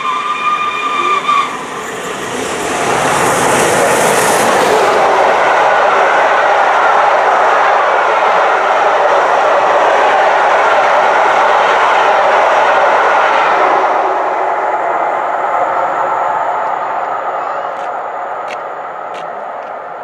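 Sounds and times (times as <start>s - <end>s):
train wheels rushing on rails: 0.0s - 20.0s.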